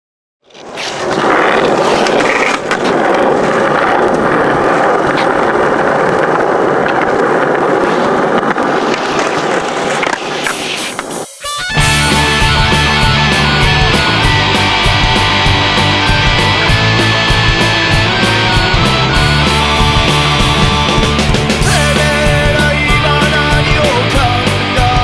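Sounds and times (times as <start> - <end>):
skateboard wheels rolling on pavement: 0.4 - 25.0
skateboard clacks: 0.5 - 11.2, 11.8 - 25.0.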